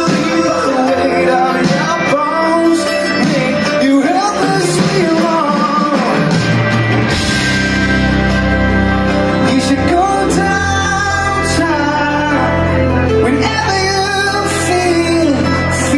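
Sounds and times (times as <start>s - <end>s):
man singing: 0.0s - 6.6s, 9.2s - 15.9s
heavy bass: 0.0s - 15.9s
live rock band playing: 0.0s - 15.9s.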